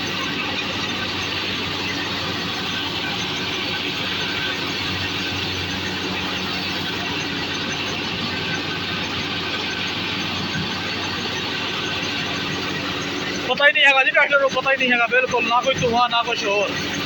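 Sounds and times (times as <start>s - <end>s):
thresher high-pitched whir: 0.0s - 17.0s
tractor diesel engine running: 0.0s - 17.0s.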